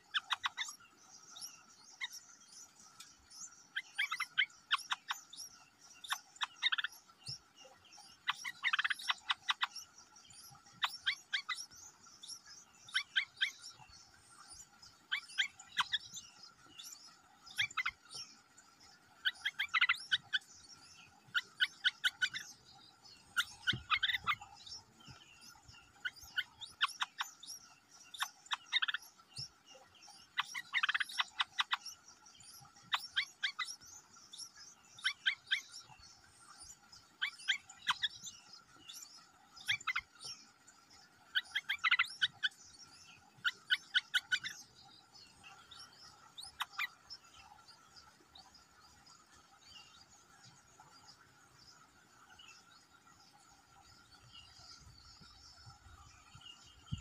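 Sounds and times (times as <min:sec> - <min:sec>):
nestling birds begging chirps: 0:00.0 - 0:57.0.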